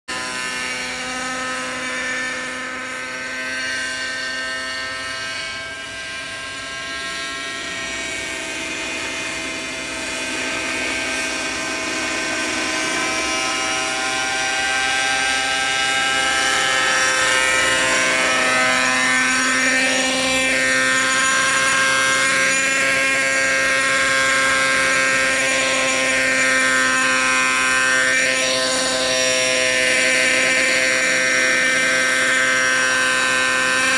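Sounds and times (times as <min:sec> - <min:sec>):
model helicopter engine: 0:00.1 - 0:33.9
rotor blades whirring: 0:00.1 - 0:33.9.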